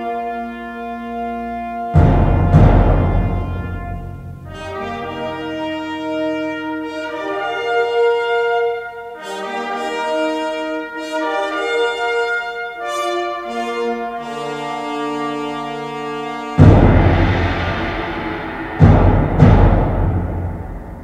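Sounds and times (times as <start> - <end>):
orchestral brass chords: 0.0 - 21.0.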